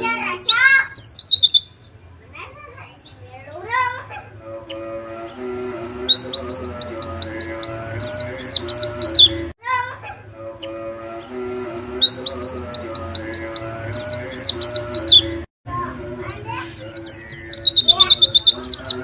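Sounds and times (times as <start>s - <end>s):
bird singing high falling chirps: 0.0s - 9.5s, 10.2s - 15.4s, 16.3s - 19.0s.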